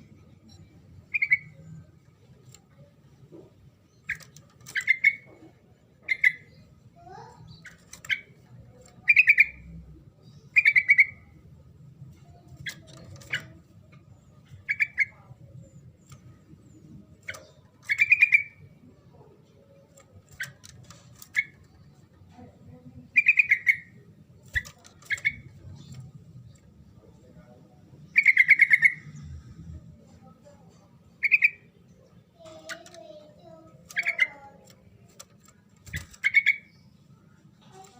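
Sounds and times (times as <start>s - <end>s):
bulbul singing chattering phrases: 0.0s - 29.6s, 30.3s - 37.9s.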